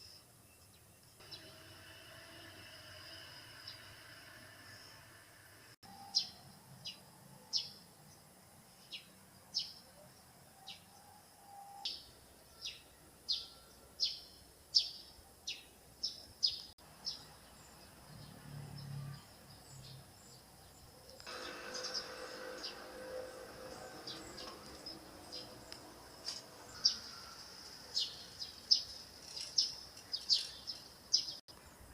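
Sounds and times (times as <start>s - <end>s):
bird chirping: 5.8s - 31.9s.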